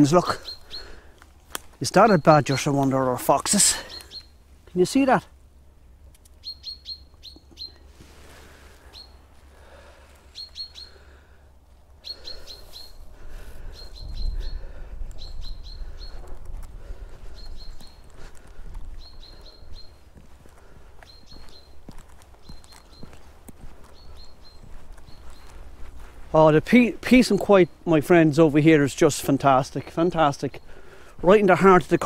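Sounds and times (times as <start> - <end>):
footsteps on woodland path: 0.0 - 5.2, 6.1 - 32.0
small birds chirping: 0.0 - 32.0.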